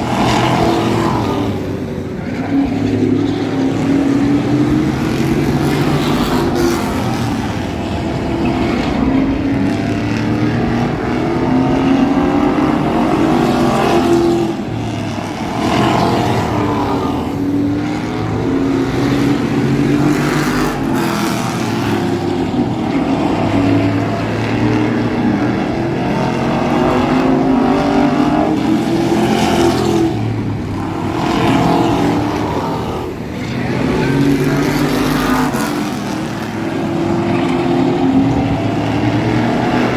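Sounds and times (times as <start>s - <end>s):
race truck engine running hard: 0.0s - 39.9s.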